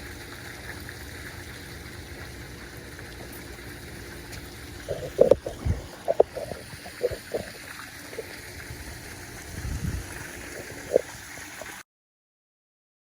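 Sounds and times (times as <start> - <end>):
trickling water: 0.0 - 11.8.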